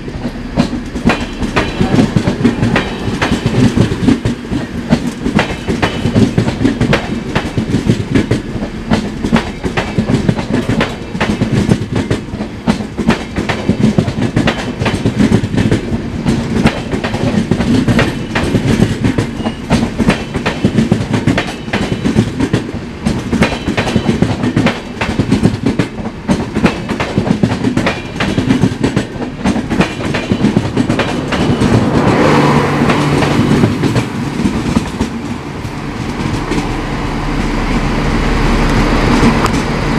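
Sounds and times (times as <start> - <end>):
train wheels clicking over rail joints: 0.0 - 37.6, 38.7 - 39.9.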